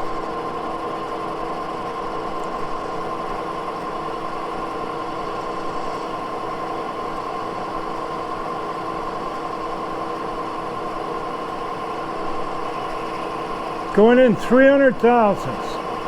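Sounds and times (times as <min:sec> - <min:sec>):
machine hum with steady whine: 0:00.0 - 0:16.0.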